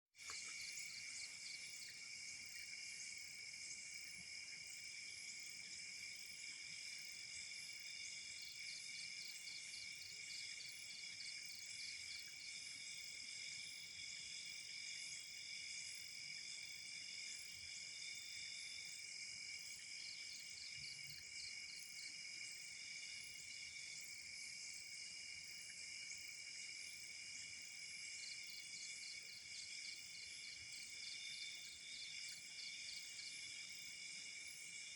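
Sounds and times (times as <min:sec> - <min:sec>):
high-pitched insect trills: 0:00.2 - 0:34.9.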